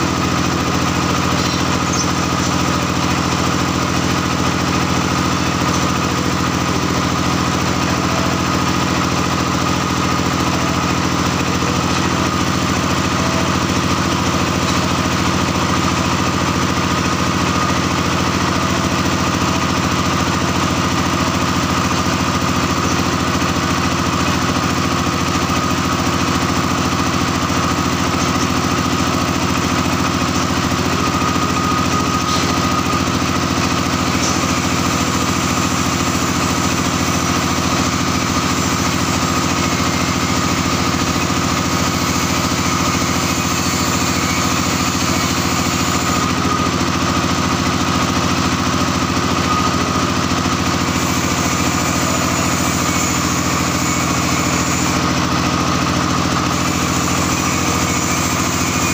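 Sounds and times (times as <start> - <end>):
small engine running steadily: 0.0 - 58.9.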